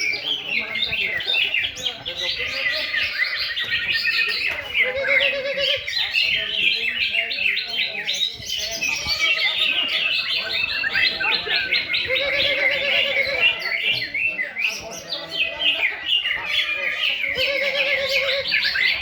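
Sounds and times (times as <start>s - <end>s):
birds chirping and trilling: 0.0s - 19.0s.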